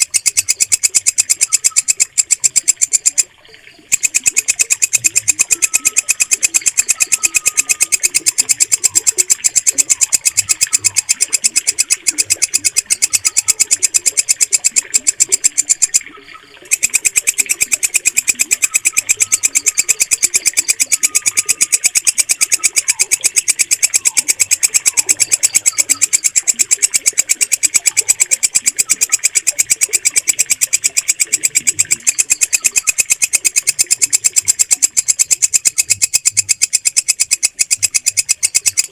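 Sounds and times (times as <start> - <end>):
katydid stridulating: 0.0 - 38.9.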